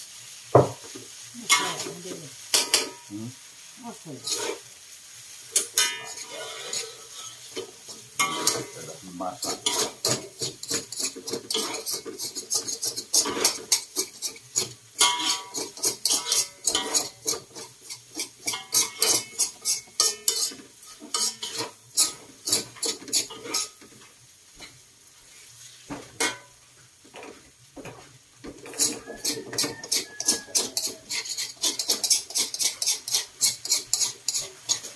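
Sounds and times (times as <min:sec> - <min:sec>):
low frying sizzle: 0:00.0 - 0:34.9
metal utensils clanking on woks: 0:00.6 - 0:03.2, 0:03.8 - 0:04.8, 0:05.5 - 0:24.8, 0:25.7 - 0:34.9.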